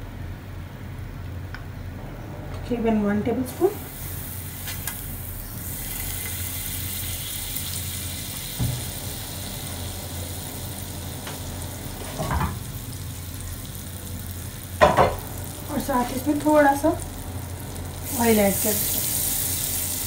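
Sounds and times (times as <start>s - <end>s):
low hum: 0.0s - 20.0s
butter sizzling in frying pan: 3.8s - 20.0s.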